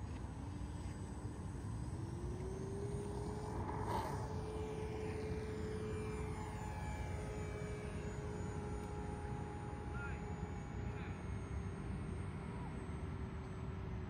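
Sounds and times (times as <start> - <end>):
model airplane motor whine: 0.0 - 14.0.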